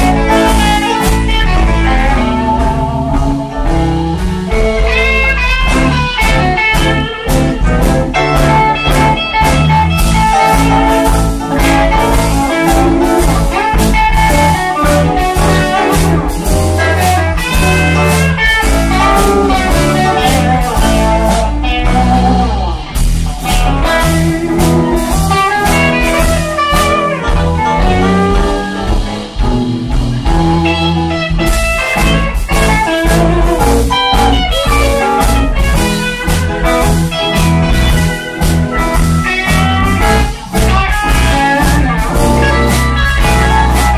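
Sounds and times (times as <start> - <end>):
bass guitar: 0.0 - 43.9
drum kit beat: 0.0 - 43.9
electric guitars: 0.0 - 43.9.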